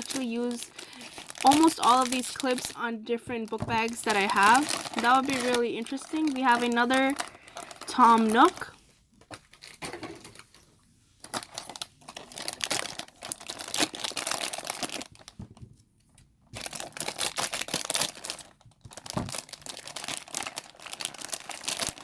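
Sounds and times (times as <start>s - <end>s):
plastic packet crinkling and tearing: 0.0s - 15.4s, 16.5s - 22.0s.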